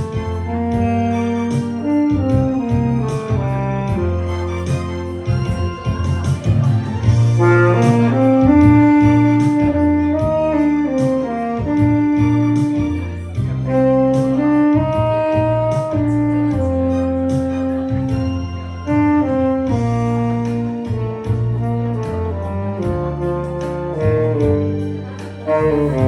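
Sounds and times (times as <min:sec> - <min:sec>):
bass line and beat: 0:00.0 - 0:26.0
tenor saxophone melody: 0:00.0 - 0:26.0.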